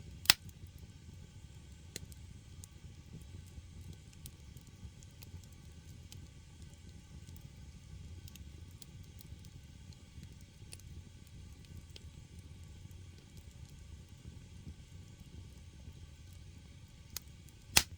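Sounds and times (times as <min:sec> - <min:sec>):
firewood crackling and popping: 0:00.0 - 0:17.9
low rumble of fire: 0:00.0 - 0:17.9.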